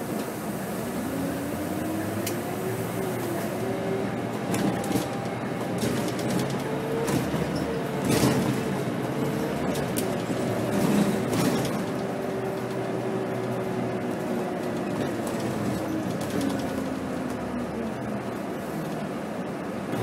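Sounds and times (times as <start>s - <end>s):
bus engine and drivetrain noise: 0.0s - 20.0s.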